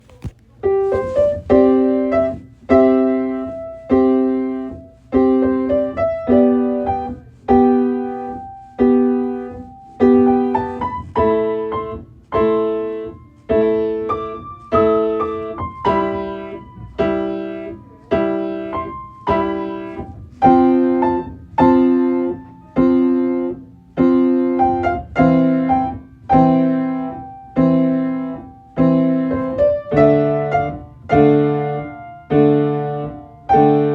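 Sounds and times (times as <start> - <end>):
gentle piano chords: 0.0 - 33.9.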